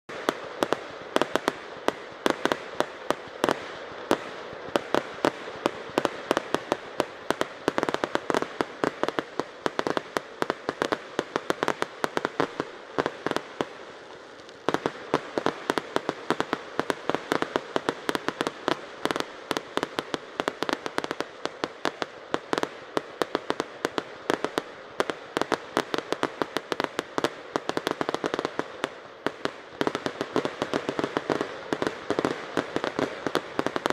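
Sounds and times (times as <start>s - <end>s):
fireworks bangs and cracks: 0.1s - 33.9s
fireworks crackle: 0.1s - 33.9s.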